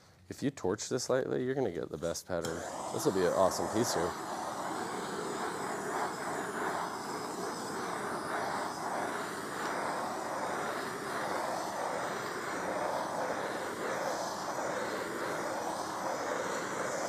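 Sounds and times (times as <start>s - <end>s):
gas torch hissing: 2.4s - 17.0s.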